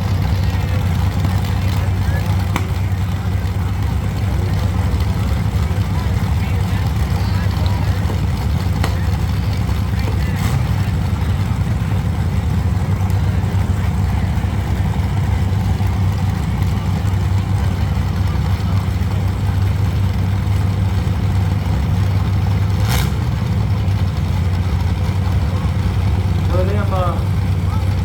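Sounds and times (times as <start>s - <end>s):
unmuffled car engines revving: 0.0s - 28.0s.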